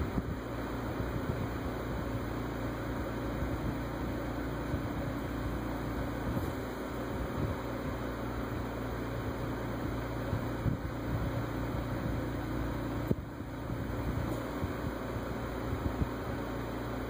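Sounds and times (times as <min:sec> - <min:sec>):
low hum with hiss: 0:00.0 - 0:17.0.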